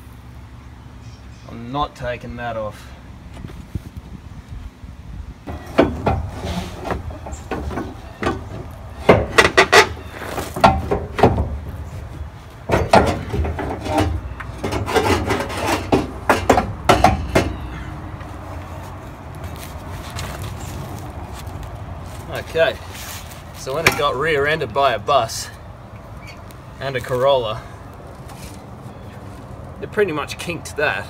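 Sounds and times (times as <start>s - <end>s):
exhaust pipe clanking and scraping: 5.4s - 31.0s.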